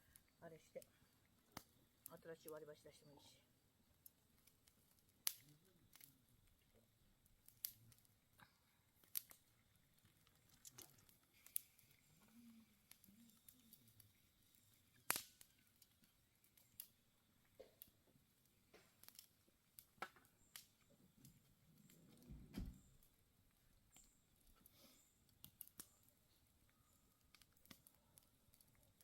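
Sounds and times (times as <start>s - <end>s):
campfire crackling: 0.0s - 29.0s
fire popping: 0.0s - 29.0s.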